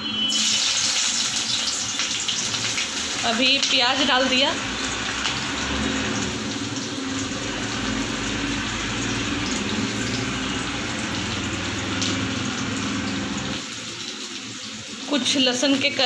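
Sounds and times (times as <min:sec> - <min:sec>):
onions sizzling in hot oil: 0:00.3 - 0:16.0.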